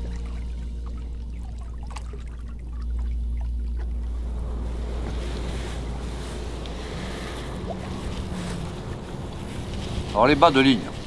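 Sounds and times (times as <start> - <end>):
water drips: 0.0 - 10.1
water lapping against boat hull: 0.0 - 10.2
low rumble of wind: 0.0 - 11.0.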